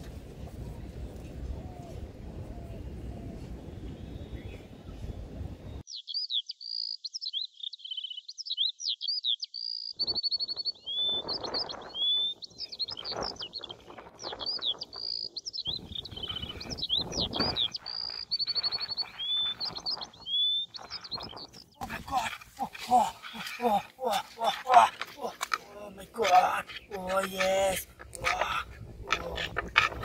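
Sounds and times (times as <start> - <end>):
songbird singing: 1.5 - 30.0.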